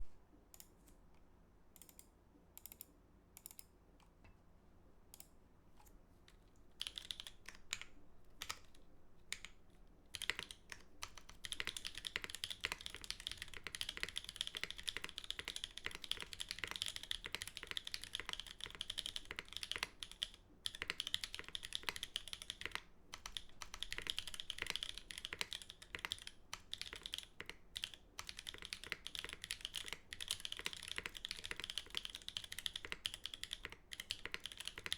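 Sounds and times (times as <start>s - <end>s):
mechanical keyboard typing: 6.8s - 34.9s.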